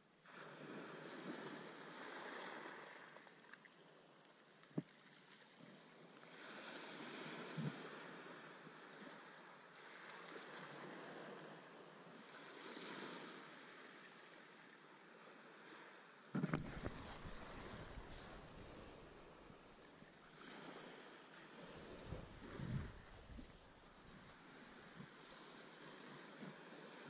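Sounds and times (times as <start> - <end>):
small waves washing ashore: 0.2 - 27.0.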